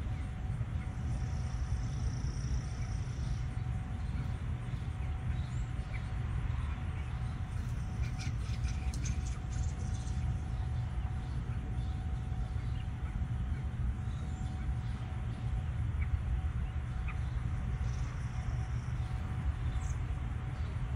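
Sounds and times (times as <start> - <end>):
low outdoor rumble: 0.0 - 20.9.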